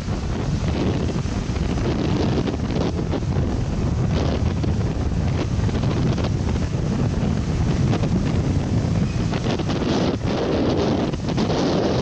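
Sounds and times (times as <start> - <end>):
waves washing onto rocky shore: 0.0 - 12.0
wind buffeting microphone: 0.0 - 12.0.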